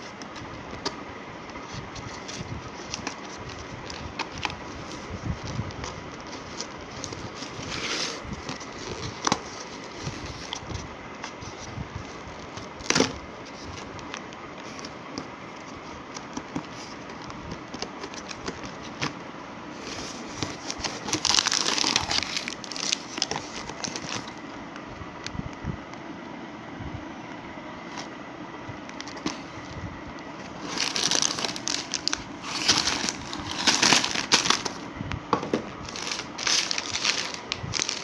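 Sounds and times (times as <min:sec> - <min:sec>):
plastic packaging crinkling: 0:00.0 - 0:24.5, 0:28.9 - 0:38.0
steady background hum: 0:00.0 - 0:38.0.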